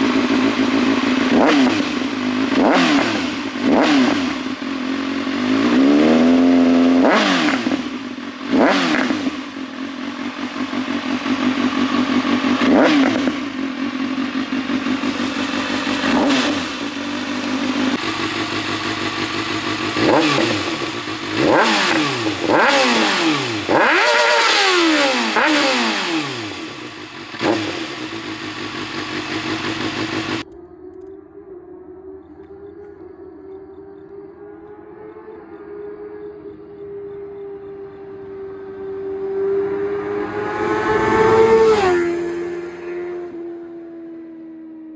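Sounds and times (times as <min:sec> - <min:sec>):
motorcycle engine revving: 0:00.0 - 0:30.6, 0:34.9 - 0:44.2.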